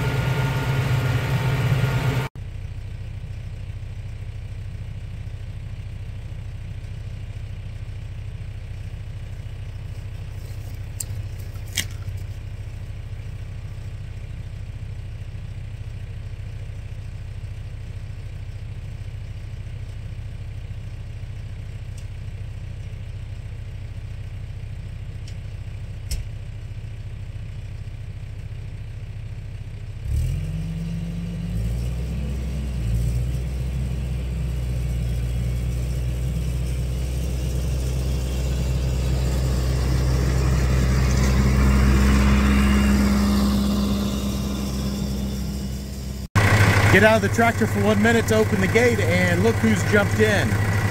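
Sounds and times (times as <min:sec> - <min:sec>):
tractor diesel engine: 0:00.0 - 0:50.9.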